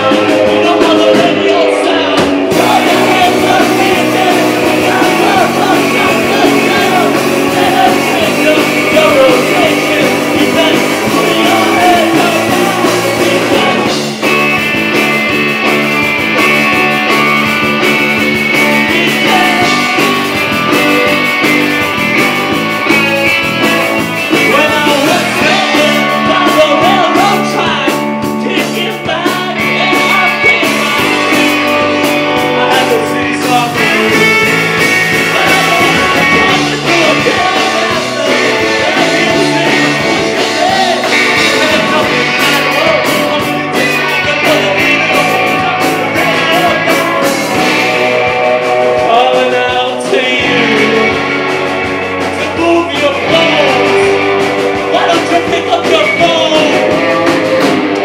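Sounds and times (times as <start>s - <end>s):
singer singing into microphone: 0.0s - 14.2s, 18.5s - 20.3s, 24.3s - 51.6s, 52.2s - 58.0s
distorted electric guitars: 0.0s - 58.0s
drums: 0.0s - 58.0s.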